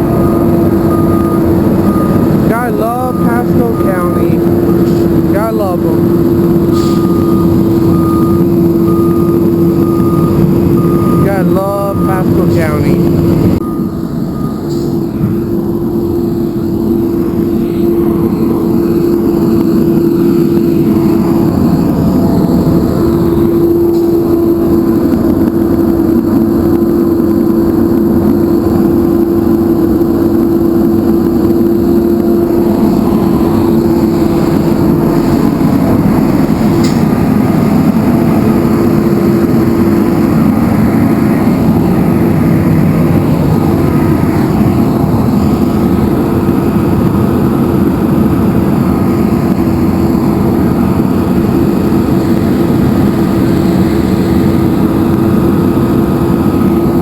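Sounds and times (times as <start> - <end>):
diesel truck engine droning: 0.0 - 57.0
steady held tone: 0.0 - 57.0.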